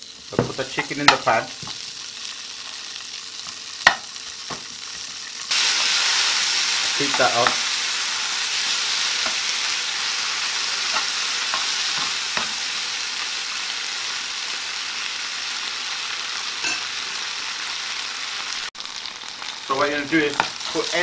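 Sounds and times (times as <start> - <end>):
curry sizzling in frying pan: 0.0 - 21.0.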